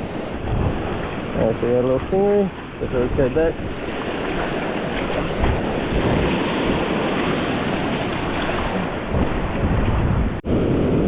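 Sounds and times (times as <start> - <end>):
ocean surf washing onto beach: 0.0 - 11.0
wind rumbling on microphone: 0.0 - 11.0.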